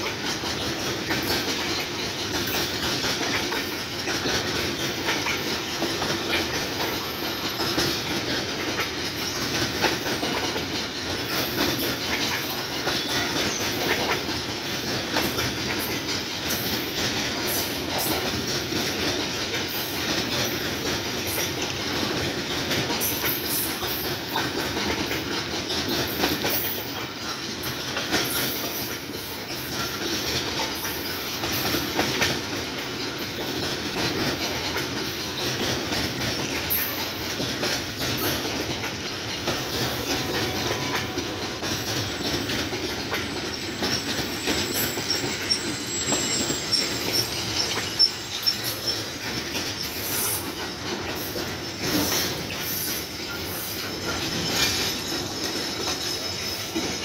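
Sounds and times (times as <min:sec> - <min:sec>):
train wheels rumbling: 0:00.0 - 0:57.0
wheels clickety-clack on rail joints: 0:00.0 - 0:57.0.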